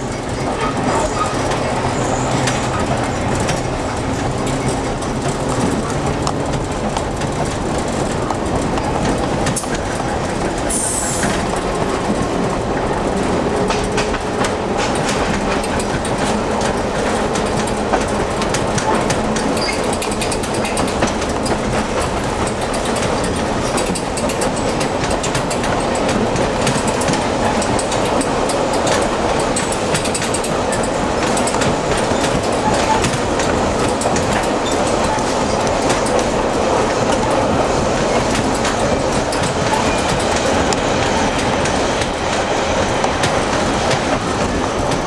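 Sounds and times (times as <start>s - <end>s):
rapid clicking over rails: 0.0s - 45.0s
streetcar wheels rumbling: 0.0s - 45.0s.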